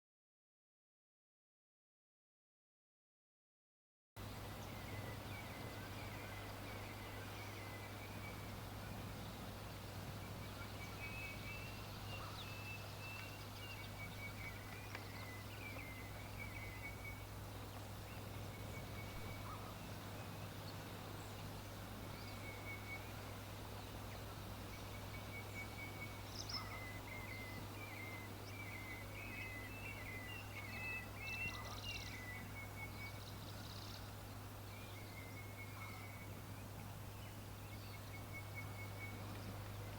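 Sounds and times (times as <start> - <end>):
birds chirping faintly: 4.2 - 39.9
steady low hum: 4.2 - 39.9.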